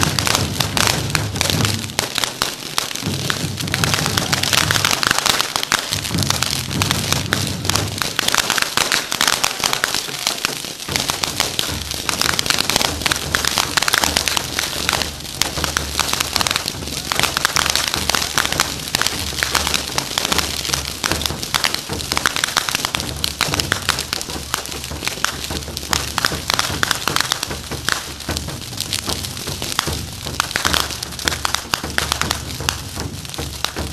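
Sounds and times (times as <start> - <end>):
fireworks crackling: 0.0 - 33.9
fireworks popping: 0.0 - 33.9.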